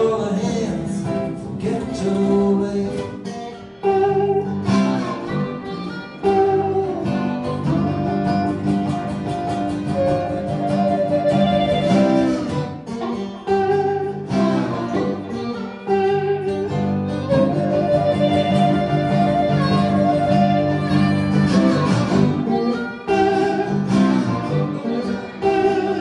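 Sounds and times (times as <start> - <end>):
blues harmonica: 0.0 - 26.0
guitars strumming and picking: 0.0 - 26.0.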